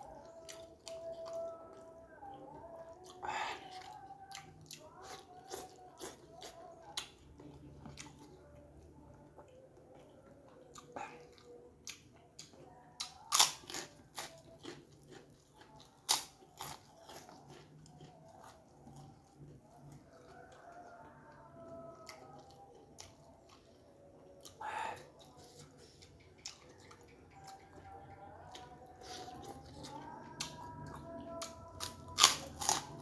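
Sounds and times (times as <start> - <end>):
chewing with small clicks: 0.0 - 33.0.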